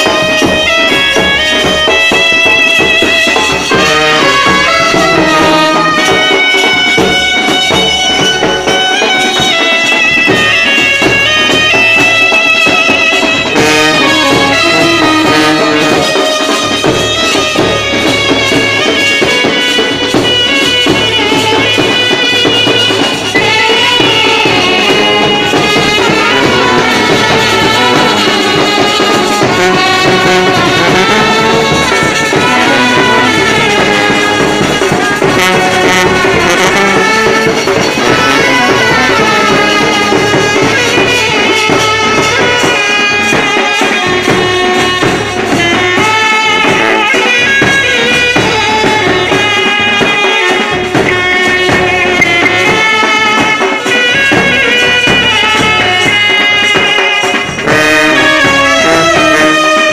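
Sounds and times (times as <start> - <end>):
brass band playing loudly: 0.0 - 59.9
saxophones playing melody: 0.0 - 59.9.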